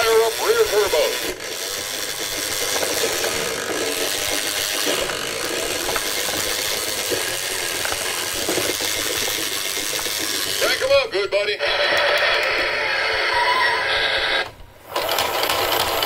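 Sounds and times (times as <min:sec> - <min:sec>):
toy truck engine sound effect: 0:00.0 - 0:16.0.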